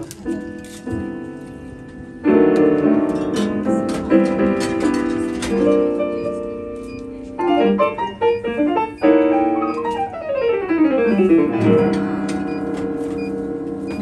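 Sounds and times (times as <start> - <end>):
solo jazz piano: 0.0 - 14.0.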